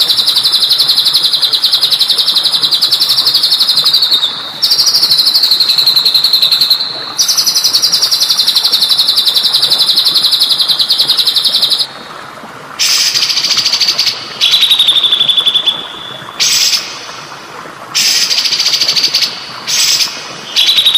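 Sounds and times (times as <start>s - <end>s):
water trickling: 0.0s - 20.9s.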